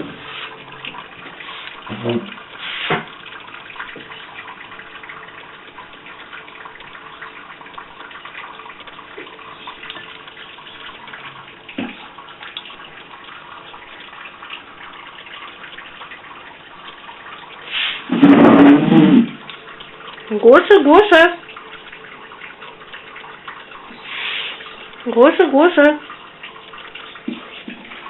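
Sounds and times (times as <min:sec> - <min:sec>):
water running from a tap: 0:00.0 - 0:28.0.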